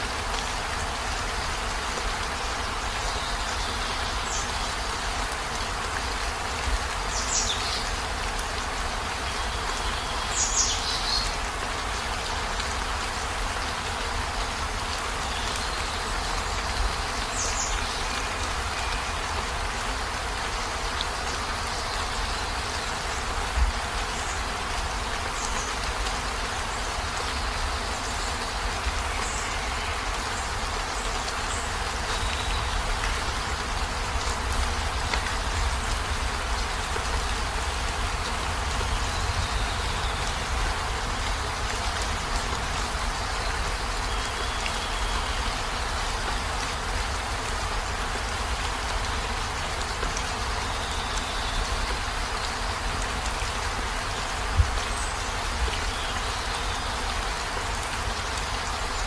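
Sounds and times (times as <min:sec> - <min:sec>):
heavy rain on a van roof: 0:00.0 - 0:59.0.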